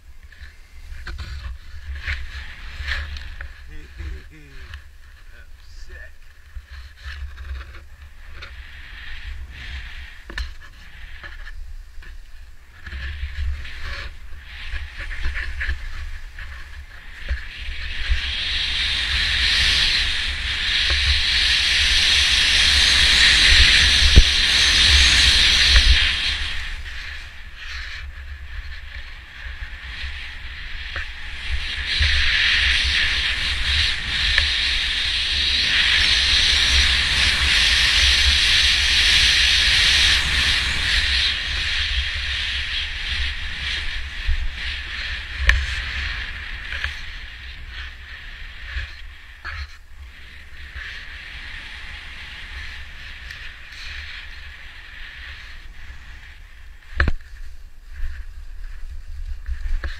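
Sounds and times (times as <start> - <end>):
wind buffeting microphone: 0.0 - 59.9
skis hissing and scraping on snow: 0.2 - 59.9.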